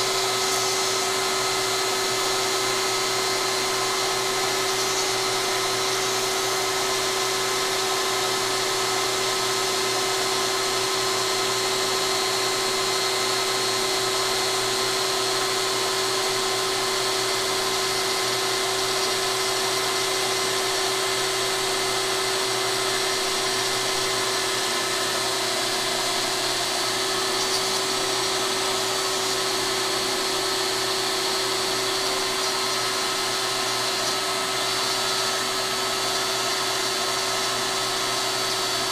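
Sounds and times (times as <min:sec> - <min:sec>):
cutting and airflow noise: 0:00.0 - 0:38.9
router motor whine: 0:00.0 - 0:38.9.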